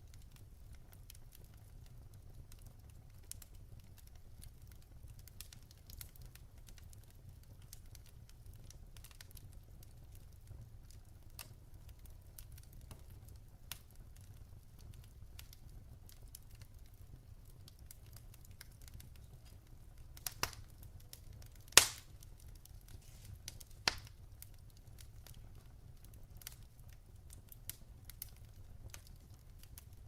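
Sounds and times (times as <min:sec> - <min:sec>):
log fire crackling and popping: 0:00.0 - 0:30.0
low rumble of fire: 0:00.0 - 0:30.0.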